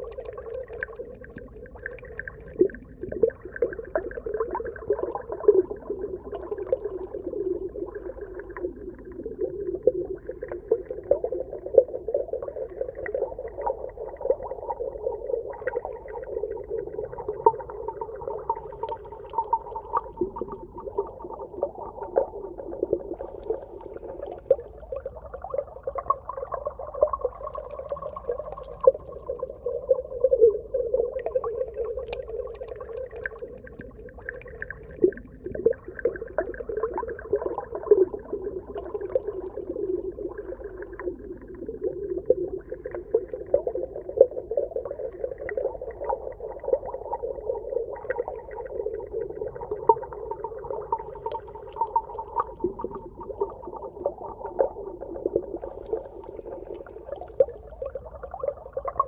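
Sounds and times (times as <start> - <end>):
underwater clicks and bubbling: 0.0 - 59.0.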